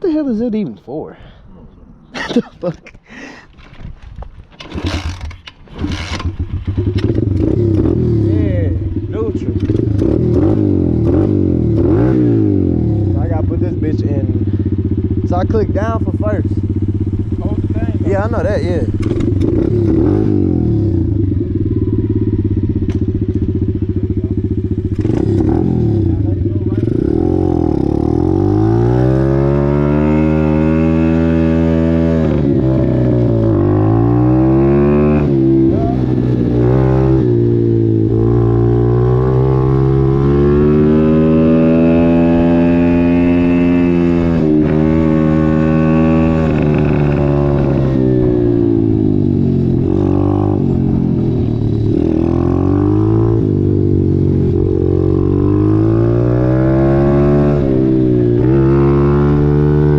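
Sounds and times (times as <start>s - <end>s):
dirt bike engine revving: 4.7s - 59.9s.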